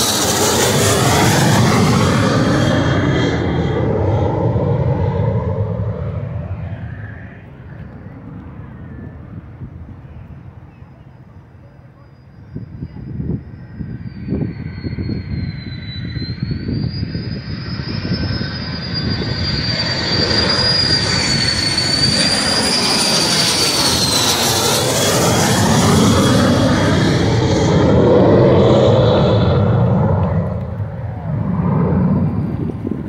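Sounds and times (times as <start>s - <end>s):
rushing jet roar: 0.0s - 9.9s, 13.1s - 33.0s
jet turbine whine: 0.0s - 33.0s.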